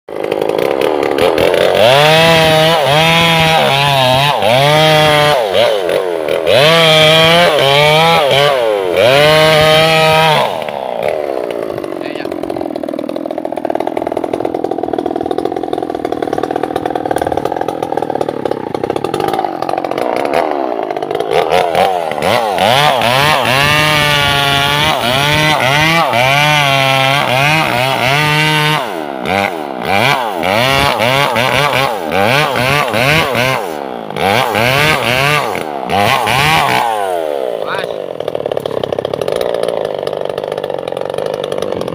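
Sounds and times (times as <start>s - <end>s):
chainsaw cutting wood: 0.1s - 41.9s.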